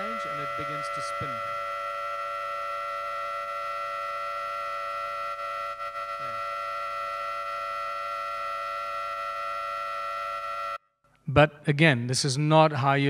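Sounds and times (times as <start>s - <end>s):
steady high-pitched tone: 0.0s - 10.8s.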